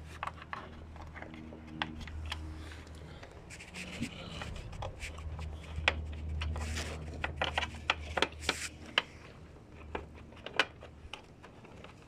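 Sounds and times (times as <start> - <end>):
screw clicks and scrapes: 0.0 - 12.0.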